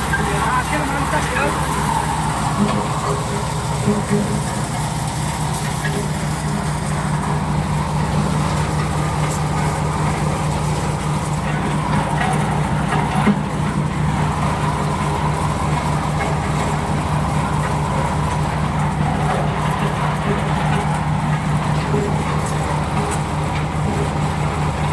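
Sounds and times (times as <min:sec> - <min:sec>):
corn sheller engine hum: 0:00.0 - 0:24.9
machinery rattling: 0:00.0 - 0:24.9.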